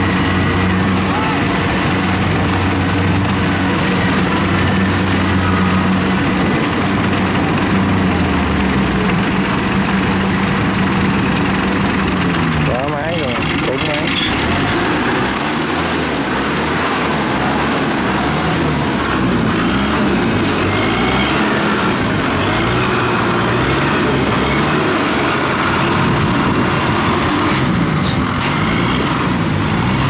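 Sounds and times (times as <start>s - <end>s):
harvester engines running under load: 0.0s - 30.0s.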